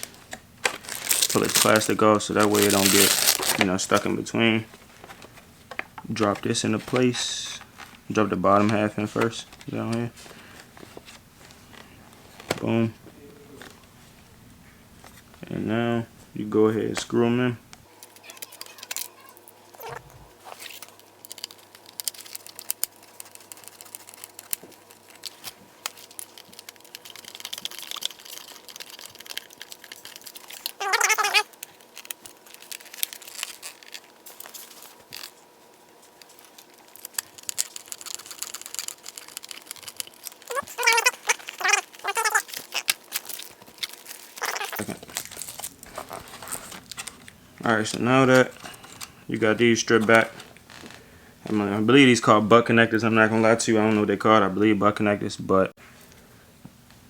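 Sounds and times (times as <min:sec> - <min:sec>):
plastic and wire rustling: 0:00.0 - 0:14.2, 0:17.8 - 0:51.8.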